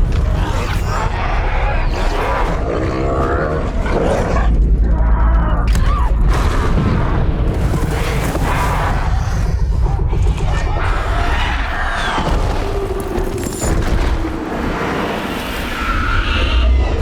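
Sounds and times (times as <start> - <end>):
action film music: 0.0 - 17.0
deep continuous rumble: 0.0 - 17.0
dinosaurs roaring: 0.0 - 17.0.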